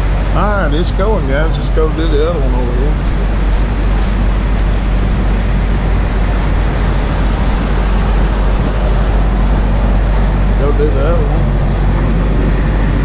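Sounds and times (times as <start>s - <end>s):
diesel truck idling: 0.0s - 13.0s.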